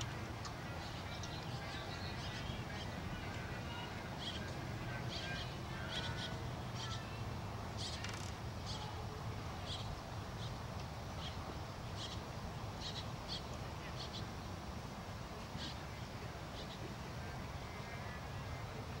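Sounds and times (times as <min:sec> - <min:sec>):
birds chirping: 0:00.0 - 0:14.5, 0:15.6 - 0:19.0.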